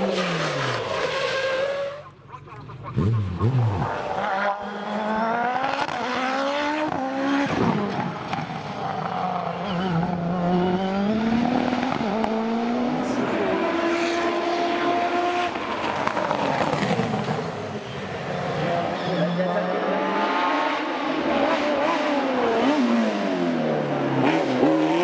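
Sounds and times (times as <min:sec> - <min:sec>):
race car engine revving: 0:02.8 - 0:25.0.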